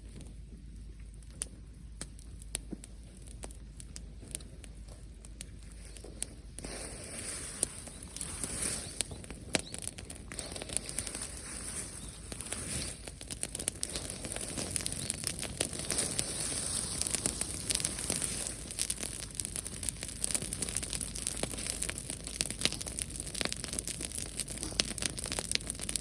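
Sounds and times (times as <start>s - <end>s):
steady hiss: 0.0s - 26.0s
dry plants crackling: 2.0s - 26.0s.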